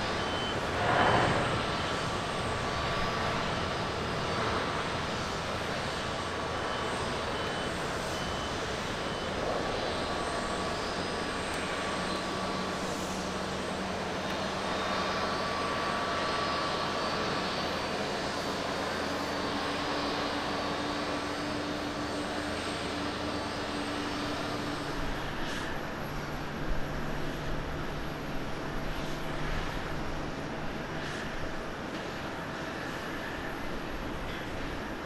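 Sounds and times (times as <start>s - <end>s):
jet engines roaring: 0.0s - 35.0s
landing jet engine hum: 0.0s - 35.0s.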